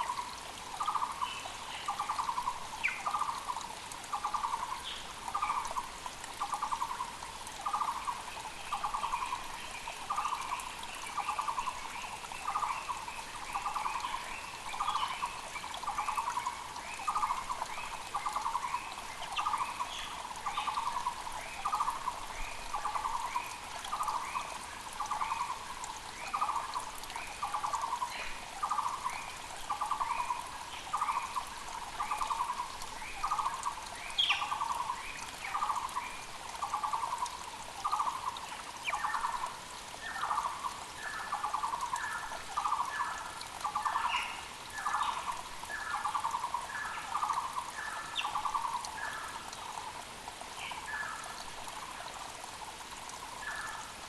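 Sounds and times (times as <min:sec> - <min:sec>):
faint rushing creek: 0:00.0 - 0:54.0.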